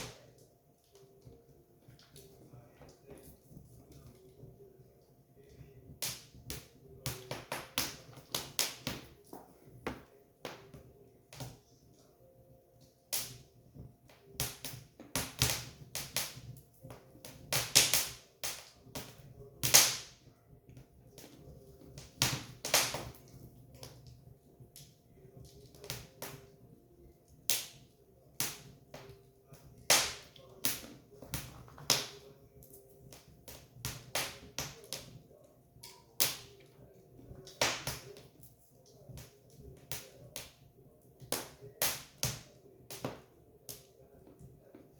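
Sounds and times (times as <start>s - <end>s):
firewood crackling and popping: 0.0s - 4.7s, 5.4s - 12.1s, 12.8s - 44.7s
faint steady hum: 0.0s - 44.9s.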